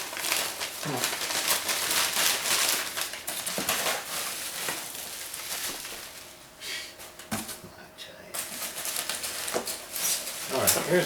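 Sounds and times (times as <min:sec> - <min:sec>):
packing peanuts rustling: 0:00.0 - 0:06.5, 0:08.4 - 0:11.0.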